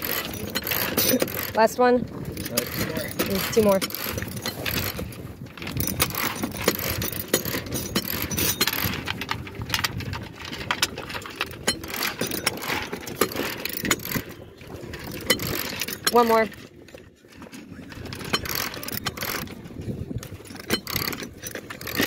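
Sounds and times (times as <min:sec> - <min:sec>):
winch ratchet clicking: 0:00.0 - 0:16.7, 0:18.0 - 0:19.6, 0:20.2 - 0:22.0
sail slides clacking: 0:00.0 - 0:22.0.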